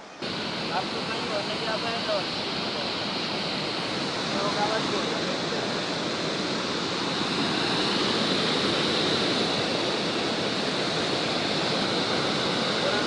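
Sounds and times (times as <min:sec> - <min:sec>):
water rushing over spillway: 0:00.1 - 0:13.0.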